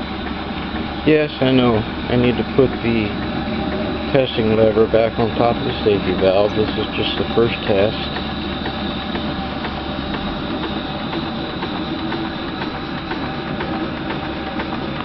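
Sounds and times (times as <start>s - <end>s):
steam engine hissing: 0.0s - 15.0s
steam engine ticking: 0.0s - 15.0s.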